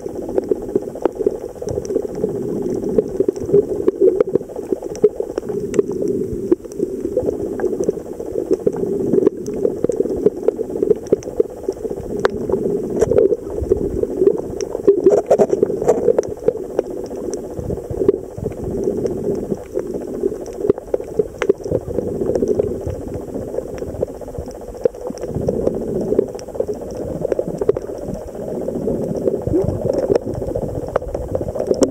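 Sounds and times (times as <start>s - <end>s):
muffled underwater rush: 0.0s - 31.9s
underwater clicks and crackles: 0.0s - 31.9s.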